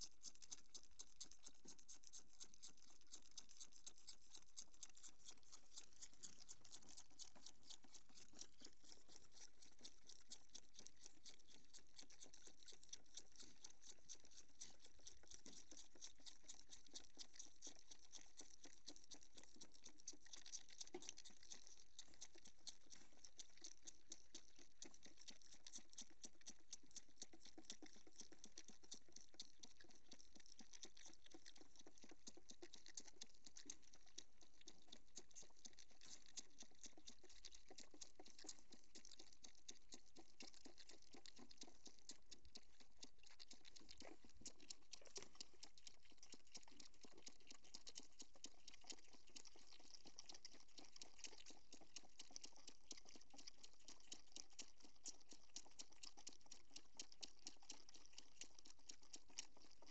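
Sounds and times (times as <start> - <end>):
goat kids sucking bottle teats: 0.0 - 59.9.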